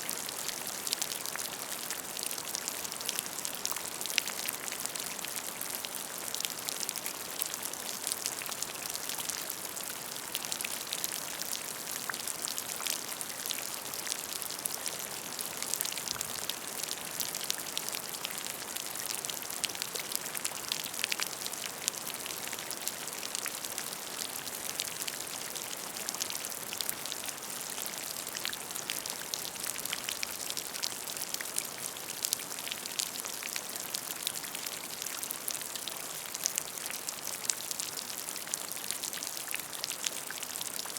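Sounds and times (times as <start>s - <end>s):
rain falling on a puddle: 0.0s - 40.9s.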